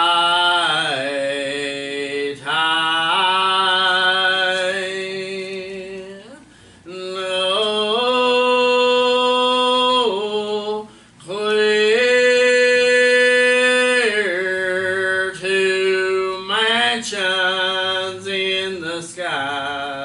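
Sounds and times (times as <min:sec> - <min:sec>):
gospel singing: 0:00.0 - 0:20.0.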